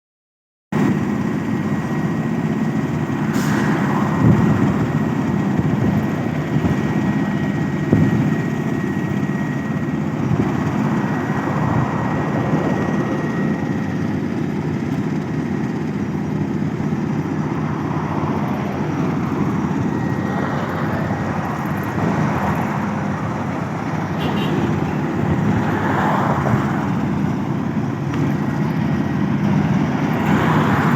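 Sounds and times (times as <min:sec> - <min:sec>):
construction machinery engine rumble: 0:00.8 - 0:30.9.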